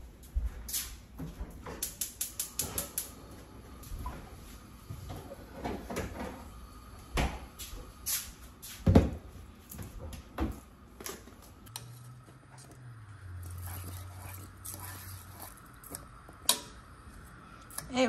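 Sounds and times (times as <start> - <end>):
low steady hum: 2.6 - 18.0.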